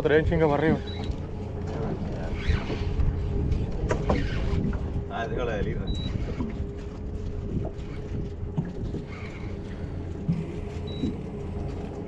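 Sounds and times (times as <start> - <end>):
boat engine humming: 0.0 - 12.0
wind rumbling on microphone: 1.8 - 12.0.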